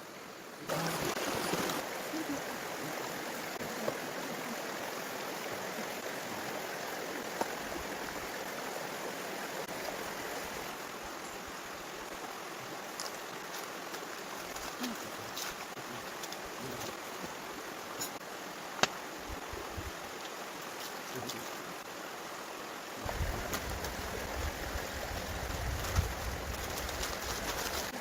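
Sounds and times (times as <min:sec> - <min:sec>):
running water: 0:00.0 - 0:28.0.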